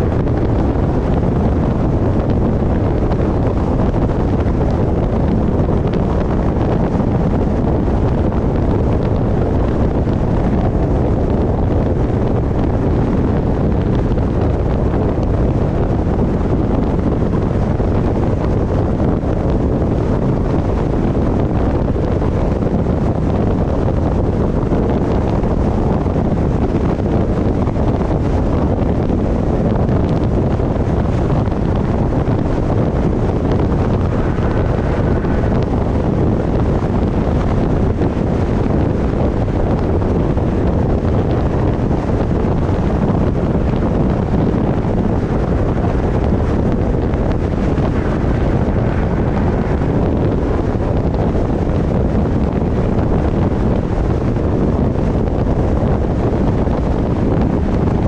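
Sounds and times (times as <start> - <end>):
car road noise: 0.0 - 58.0
wind rushing over microphone: 0.0 - 58.0.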